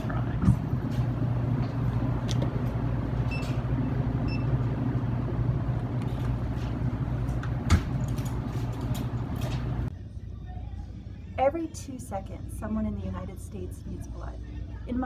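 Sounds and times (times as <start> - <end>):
low machinery hum: 0.0 - 14.9.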